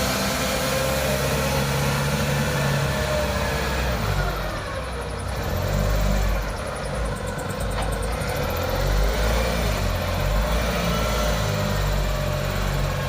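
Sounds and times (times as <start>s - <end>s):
forklift engine humming: 0.0s - 13.0s.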